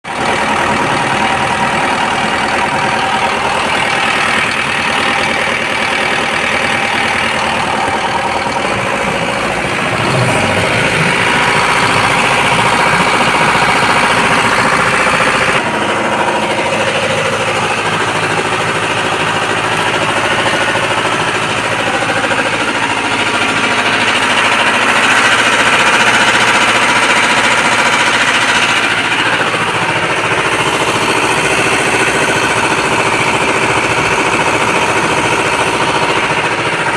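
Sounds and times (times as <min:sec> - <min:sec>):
engine running with abnormal noise: 0:00.0 - 0:36.9.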